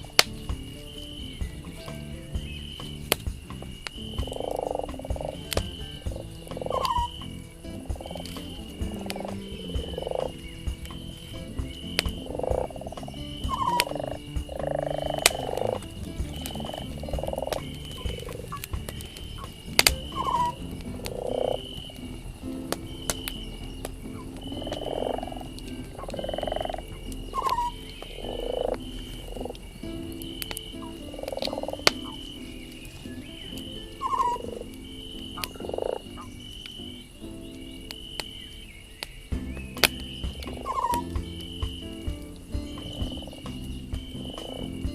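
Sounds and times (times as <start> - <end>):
campfire crackling and popping: 0.0 - 44.9
frogs croaking: 0.0 - 44.9
rattling frog croaks: 2.4 - 22.2, 22.8 - 32.6, 34.0 - 36.8, 39.8 - 41.9, 42.7 - 44.9.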